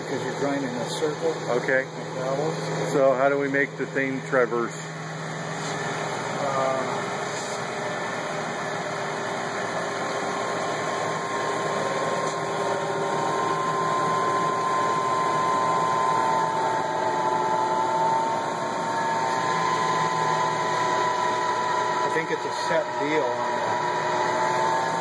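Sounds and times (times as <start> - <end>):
grinding machine hum and whine: 0.0 - 25.0.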